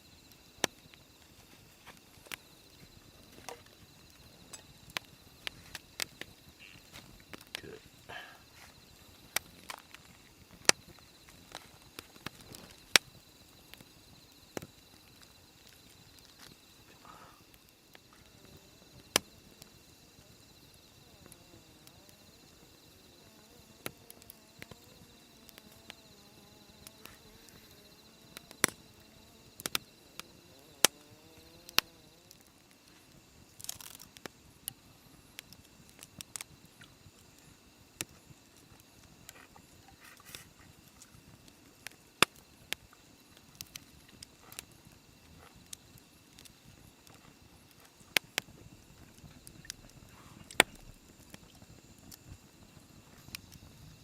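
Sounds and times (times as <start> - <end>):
crickets chirring: 0.0 - 54.0
sharp pops and snaps: 0.3 - 16.8, 17.4 - 19.7, 23.8 - 26.0, 26.8 - 54.0.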